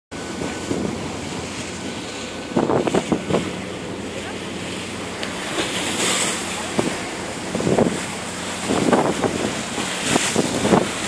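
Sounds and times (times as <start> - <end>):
choppy sea rushing past boat: 0.1 - 11.0
faint boat engine drone: 0.1 - 11.0
water splashes: 0.1 - 11.0
wind buffeting microphone: 0.1 - 11.0.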